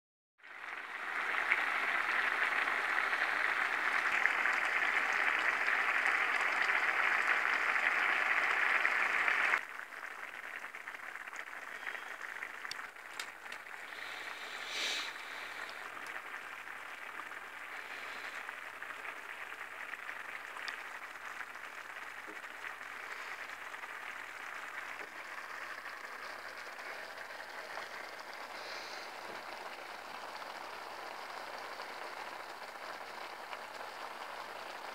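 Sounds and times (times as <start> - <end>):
broth boiling and bubbling: 0.4 - 34.9.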